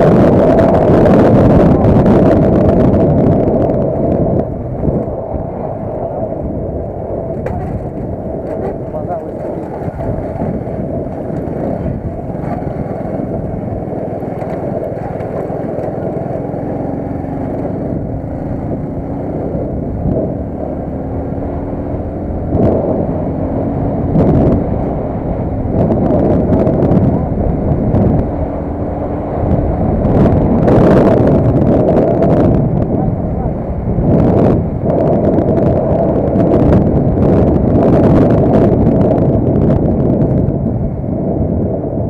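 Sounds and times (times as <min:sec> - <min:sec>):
vehicle rumble and wind noise: 0:00.0 - 0:42.0.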